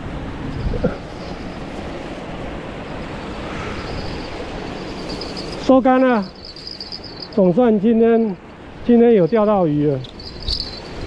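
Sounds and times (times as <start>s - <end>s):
rushing air or water: 0.0s - 11.0s.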